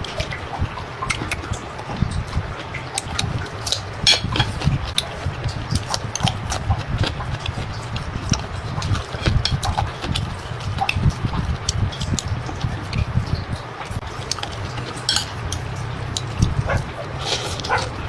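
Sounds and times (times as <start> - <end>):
person chewing with wet smacks: 1.0 - 13.0, 14.1 - 18.0.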